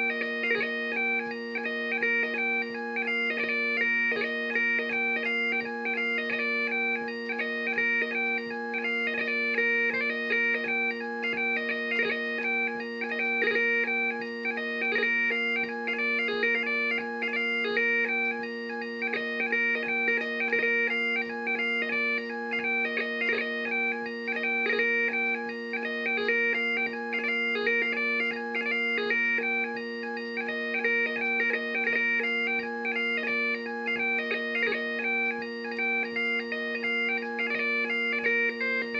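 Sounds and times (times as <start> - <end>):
bagpipe chanter melody: 0.0 - 38.9
bagpipe drones: 0.0 - 38.9.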